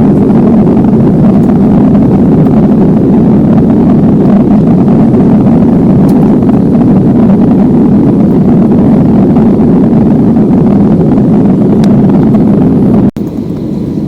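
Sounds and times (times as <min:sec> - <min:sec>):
airliner cabin engine roar: 0:00.0 - 0:14.0.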